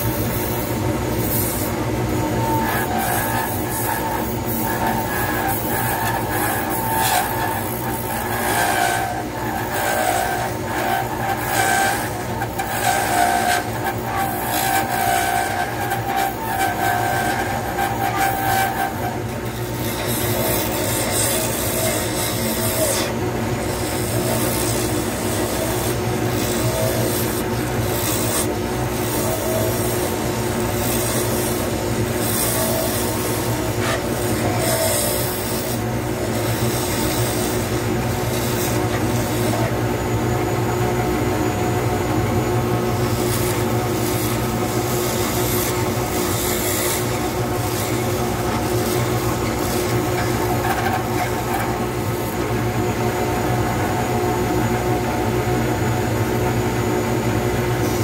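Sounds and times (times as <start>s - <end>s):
tool scraping spinning wood: 0.0s - 55.5s
lathe motor hum: 0.0s - 58.0s.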